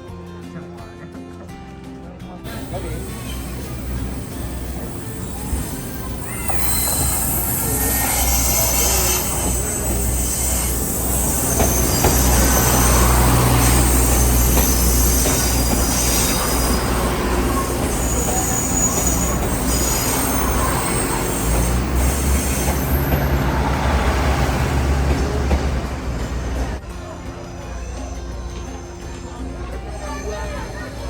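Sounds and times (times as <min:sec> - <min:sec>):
train rumbling: 0:02.5 - 0:31.0
train wheel squeal: 0:02.5 - 0:31.0.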